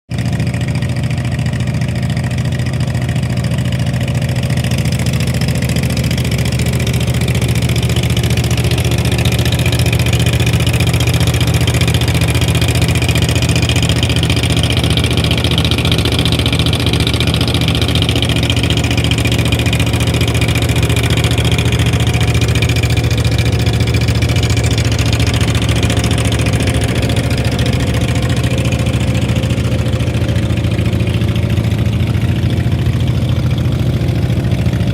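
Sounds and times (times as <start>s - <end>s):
wood chipper engine running: 0.1s - 34.9s.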